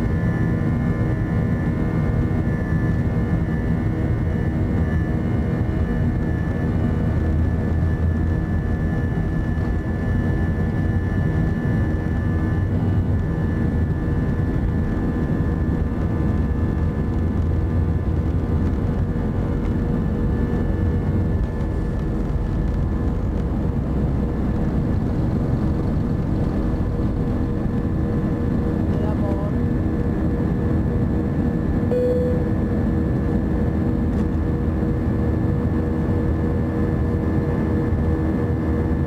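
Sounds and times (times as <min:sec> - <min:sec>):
jet engines roaring at takeoff: 0:00.0 - 0:39.0.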